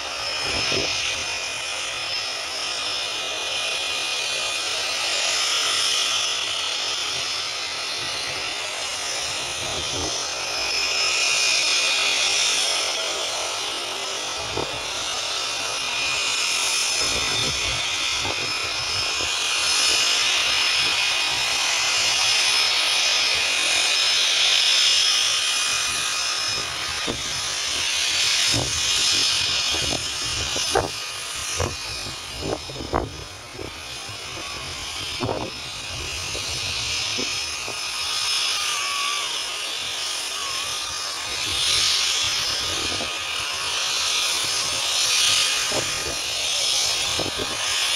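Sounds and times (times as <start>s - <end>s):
distant plane engine drone: 0.0s - 47.9s.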